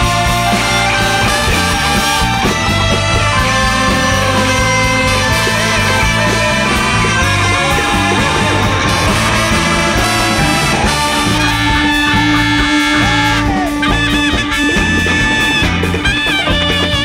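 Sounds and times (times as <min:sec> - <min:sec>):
jazz band playing: 0:00.0 - 0:17.0.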